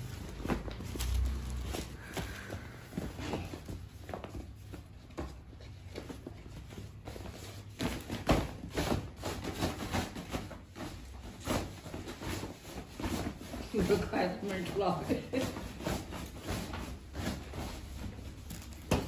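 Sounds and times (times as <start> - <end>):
fabric basket rustling: 0.0 - 19.0.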